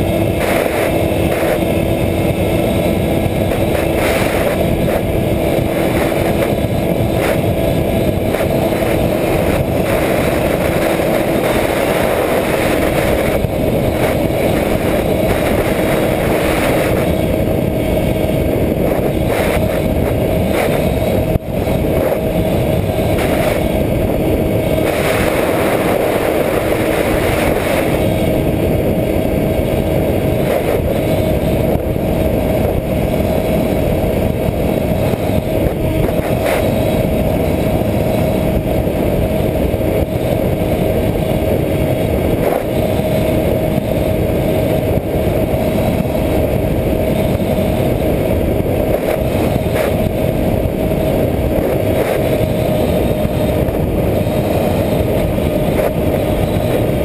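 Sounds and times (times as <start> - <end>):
electric motor and propeller whine: 0.0 - 57.0
wind rush on microphone: 0.0 - 57.0.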